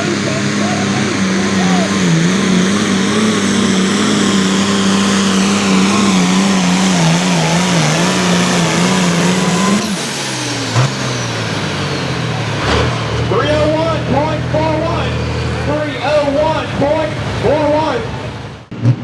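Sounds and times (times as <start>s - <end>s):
high turbo whine: 0.0s - 18.9s
diesel engine under load: 0.0s - 19.0s.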